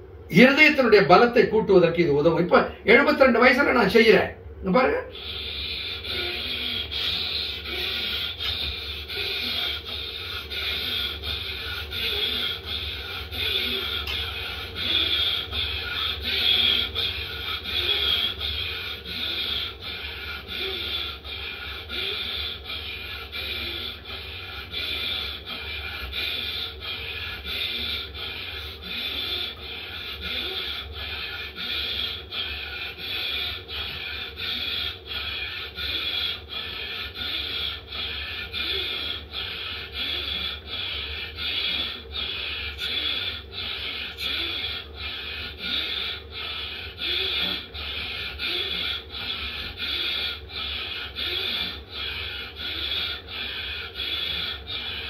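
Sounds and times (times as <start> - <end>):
fast forceful breathing: 0.0 - 55.0.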